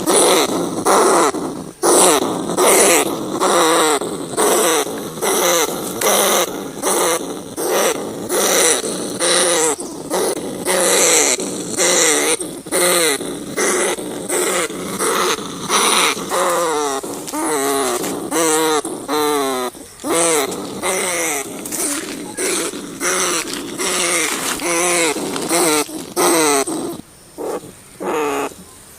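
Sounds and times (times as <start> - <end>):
rat squealing: 0.0 - 28.6.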